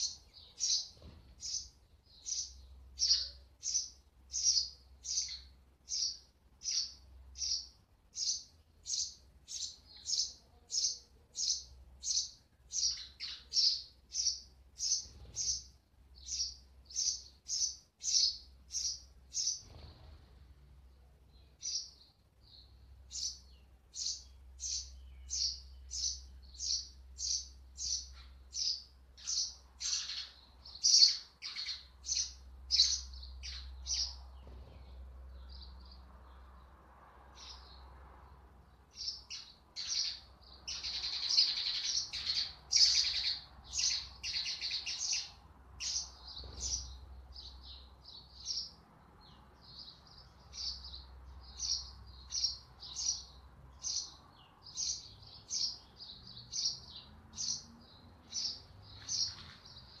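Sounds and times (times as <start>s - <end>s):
sparrows chirping: 0.0s - 60.0s.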